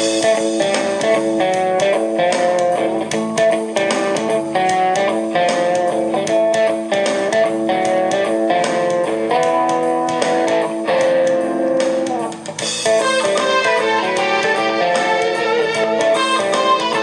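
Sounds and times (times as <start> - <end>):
electric guitar music: 0.0 - 17.0.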